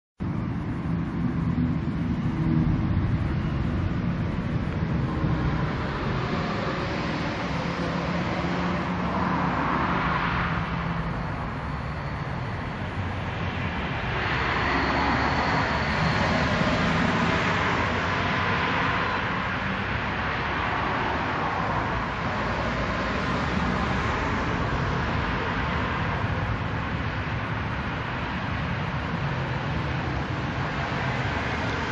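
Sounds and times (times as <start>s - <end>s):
distant road traffic: 0.2s - 31.9s.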